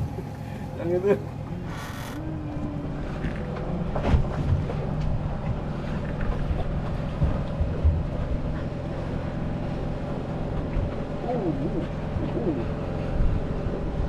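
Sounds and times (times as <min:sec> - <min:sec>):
boat motor droning: 0:00.0 - 0:14.0.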